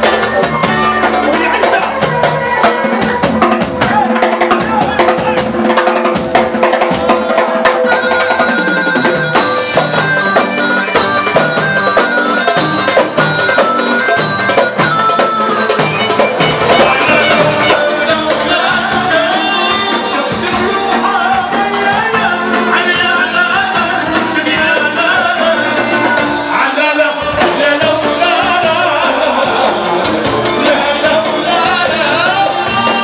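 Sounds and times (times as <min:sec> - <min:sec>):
drum kit: 0:00.0 - 0:33.0
hand percussion drums: 0:00.0 - 0:33.0
wedding band melody: 0:00.0 - 0:33.0.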